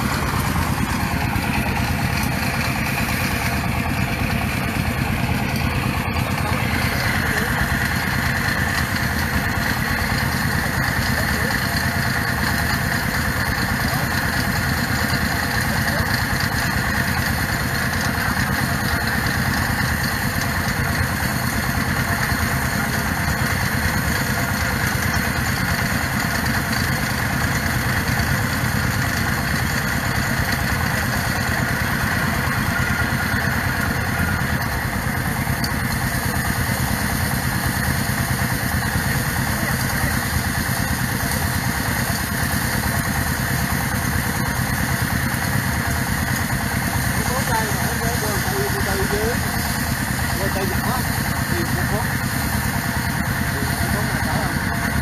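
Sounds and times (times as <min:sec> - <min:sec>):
small drilling rig engine running: 0:00.0 - 0:55.0.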